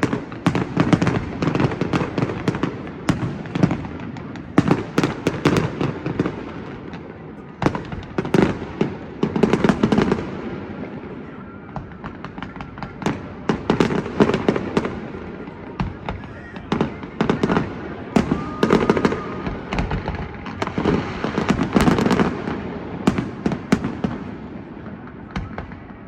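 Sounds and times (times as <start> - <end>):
fireworks bangs and crackling pops: 0.0 - 26.0.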